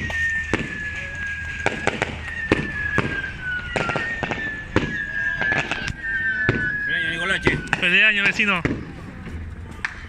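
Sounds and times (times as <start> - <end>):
high whistle: 0.0 - 8.7
firecrackers banging: 0.0 - 10.0.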